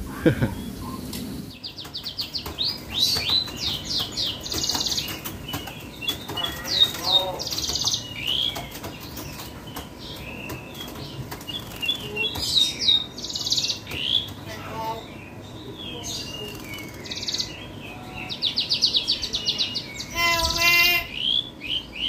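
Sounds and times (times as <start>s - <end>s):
harsh buzzy bird trills: 0.0s - 22.0s
songbirds singing: 0.0s - 22.0s.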